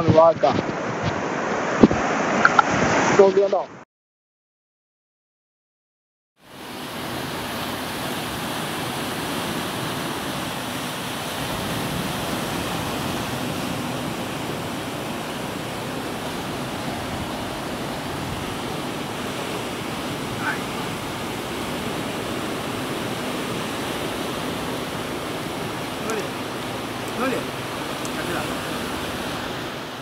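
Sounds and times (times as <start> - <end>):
surf breaking against boulders: 0.0 - 3.6, 8.2 - 29.6.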